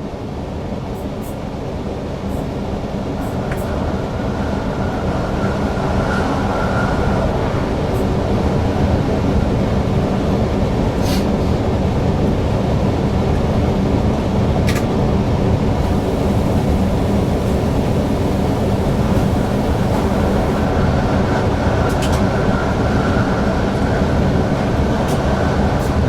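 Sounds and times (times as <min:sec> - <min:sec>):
train rumble from cab: 0:00.0 - 0:26.0.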